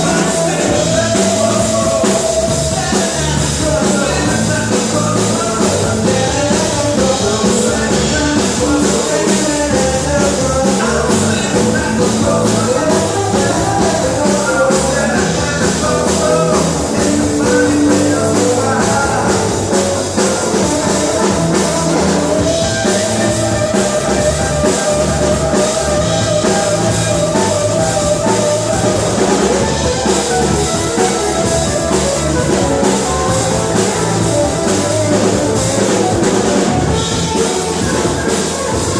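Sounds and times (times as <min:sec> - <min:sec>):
rock music with singing: 0:00.0 - 0:38.9.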